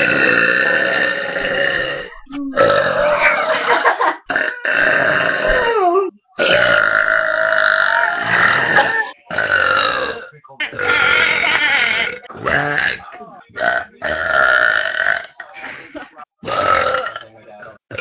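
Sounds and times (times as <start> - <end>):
woman belching loudly: 0.0 - 3.4, 4.3 - 13.0, 13.6 - 15.4, 16.4 - 17.2.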